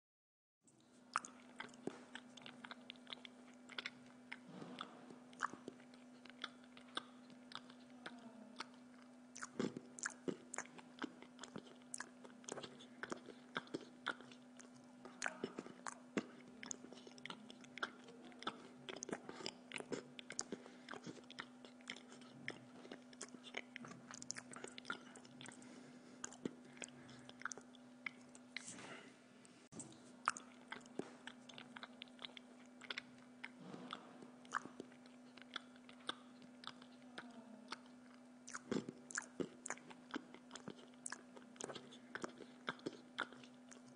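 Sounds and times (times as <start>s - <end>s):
man chewing food: 0.7s - 43.9s
steady low hum: 0.7s - 43.9s.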